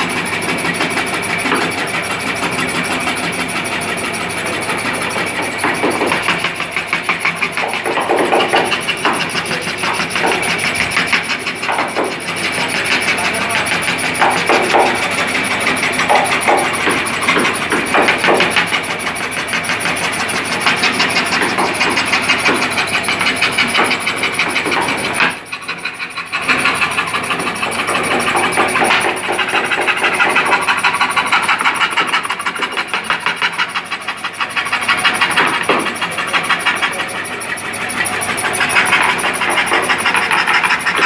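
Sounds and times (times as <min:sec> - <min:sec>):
scroll saw cutting wood: 0:00.0 - 0:41.0.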